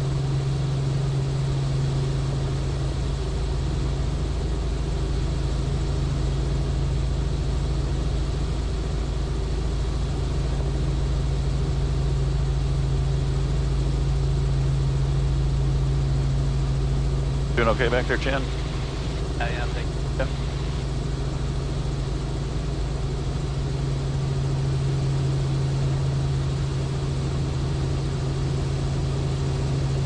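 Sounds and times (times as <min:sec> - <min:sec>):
helicopter engine and rotors droning: 0:00.0 - 0:30.0.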